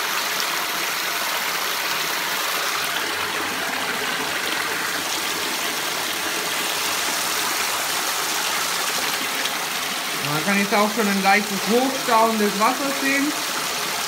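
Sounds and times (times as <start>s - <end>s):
water jets splashing: 0.0s - 14.0s.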